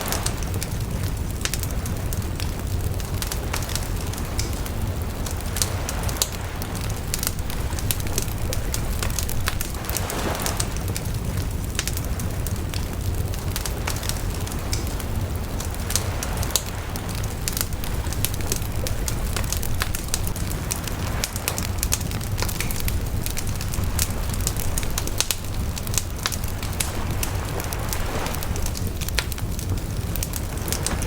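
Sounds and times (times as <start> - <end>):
bonfire crackling and popping: 0.0 - 31.0
low rumble: 3.9 - 13.4, 15.0 - 31.0.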